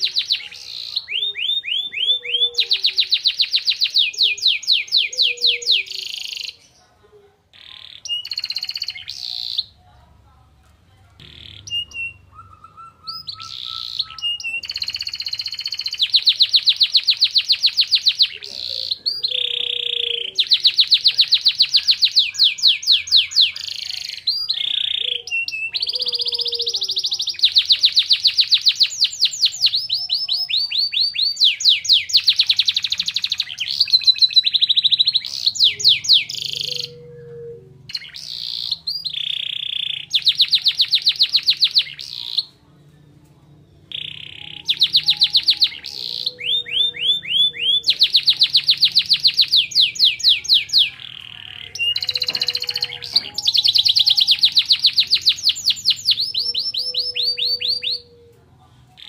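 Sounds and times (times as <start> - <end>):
canary singing trills: 0.0 - 9.9, 11.1 - 42.6, 43.2 - 59.0.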